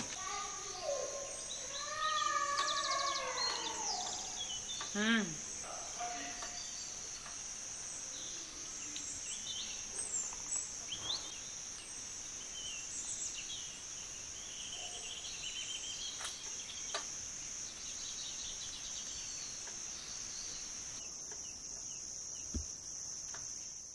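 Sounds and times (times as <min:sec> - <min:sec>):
faint chirps and clicks: 0:00.0 - 0:23.9
insects trilling: 0:00.0 - 0:23.9.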